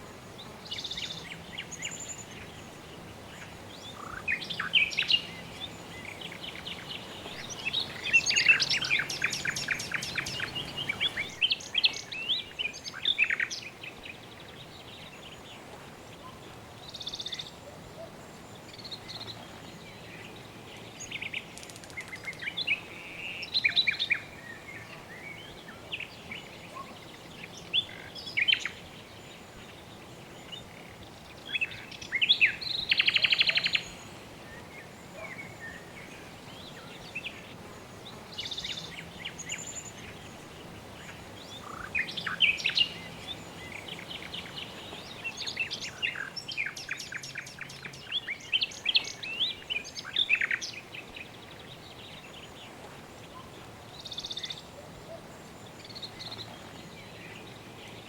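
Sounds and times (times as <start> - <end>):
soft background hiss: 0.0 - 58.0.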